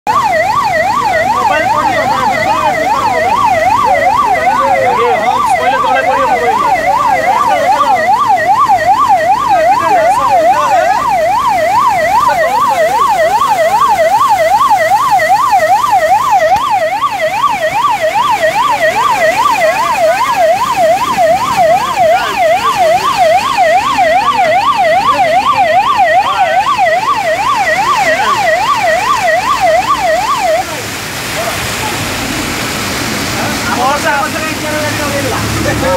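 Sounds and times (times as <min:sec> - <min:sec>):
ambulance siren wailing: 0:00.0 - 0:35.9.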